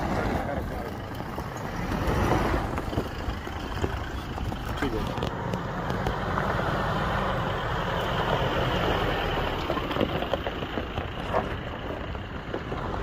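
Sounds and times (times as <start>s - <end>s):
pickup engine running low: 0.0s - 13.0s.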